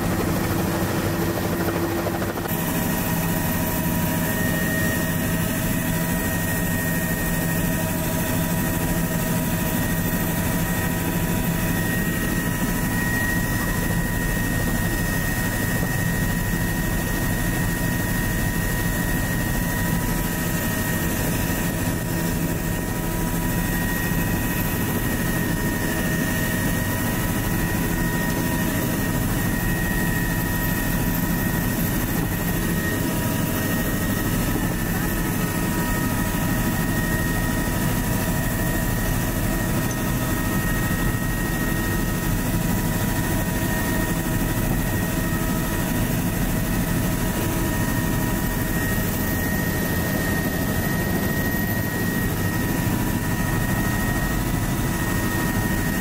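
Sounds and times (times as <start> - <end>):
helicopter rotor and engine drone: 0.0 - 56.0
steady whining tones: 0.0 - 56.0.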